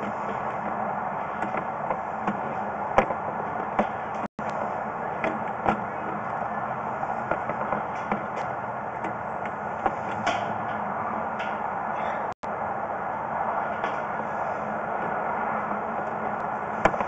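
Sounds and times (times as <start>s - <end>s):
steady running noise: 0.0s - 17.0s.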